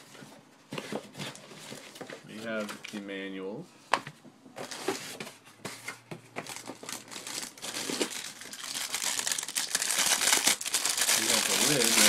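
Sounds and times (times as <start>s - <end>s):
packaging rustling and crinkling: 0.0s - 3.0s, 4.6s - 12.0s.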